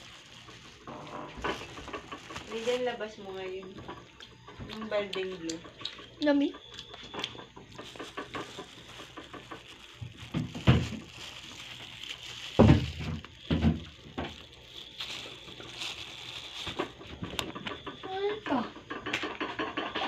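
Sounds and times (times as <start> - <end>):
plastic bag rustling: 0.0 - 5.0, 6.3 - 18.0.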